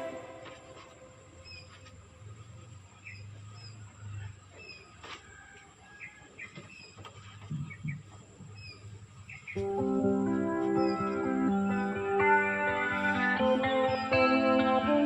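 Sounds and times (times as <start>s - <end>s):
small birds chirping: 1.3s - 5.0s, 6.0s - 14.7s.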